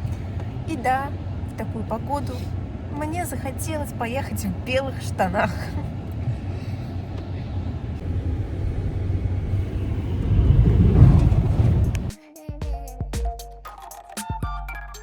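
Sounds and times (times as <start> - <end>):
car engine and tyre rumble: 0.0 - 12.1.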